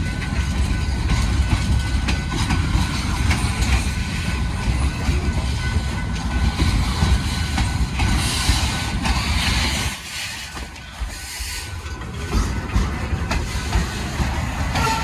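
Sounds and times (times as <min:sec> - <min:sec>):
train rolling past with rumble: 0:00.0 - 0:15.0.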